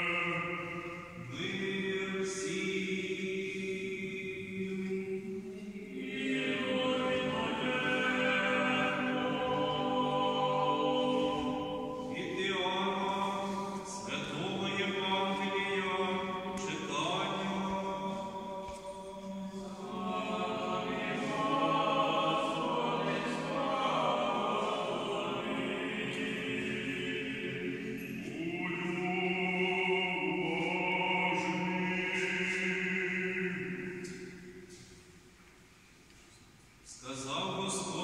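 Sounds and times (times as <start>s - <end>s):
choir singing slow chant: 0.0s - 35.0s, 36.9s - 38.0s.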